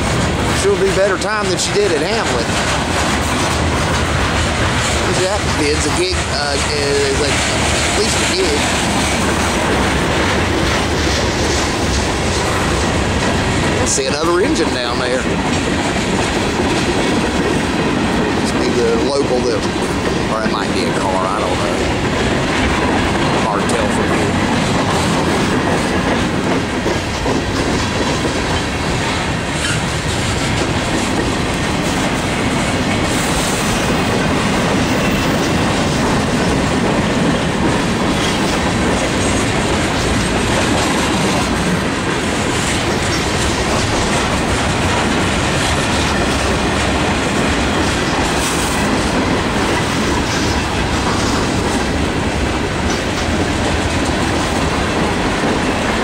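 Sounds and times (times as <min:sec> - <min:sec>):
freight cars rolling on rails: 0:00.0 - 0:56.0.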